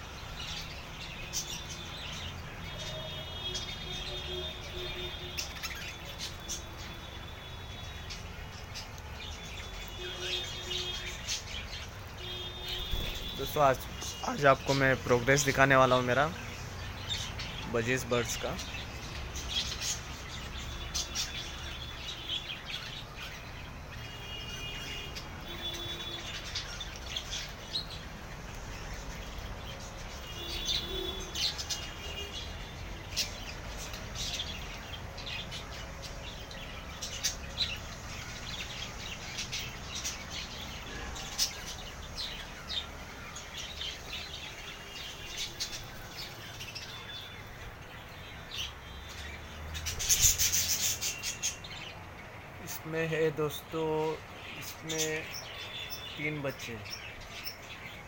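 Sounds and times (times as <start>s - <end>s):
budgerigars chirping: 0.0s - 52.1s.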